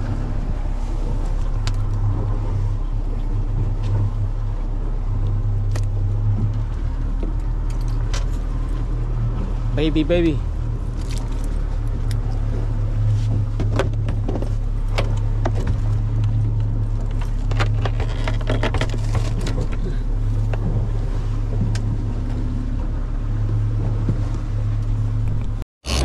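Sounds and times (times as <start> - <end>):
outboard engine humming: 0.0 - 26.0.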